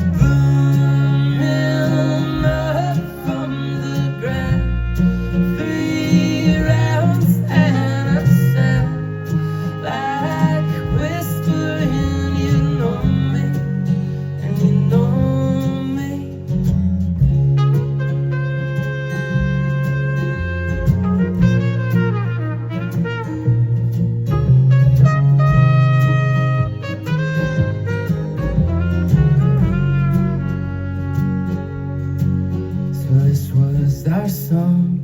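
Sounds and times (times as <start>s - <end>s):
sliding melodic lead line: 0.0s - 34.5s
folk rock band playing: 0.0s - 35.0s.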